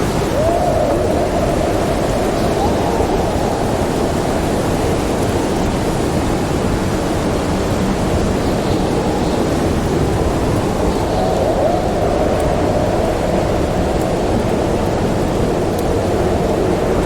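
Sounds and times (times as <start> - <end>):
faint howling wind tones: 0.0 - 17.0
storm wind roaring: 0.0 - 17.0.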